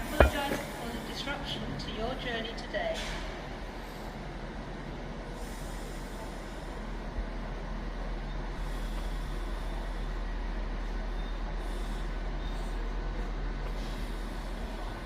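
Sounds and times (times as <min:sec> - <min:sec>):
low rumble of trains: 0:00.0 - 0:15.0.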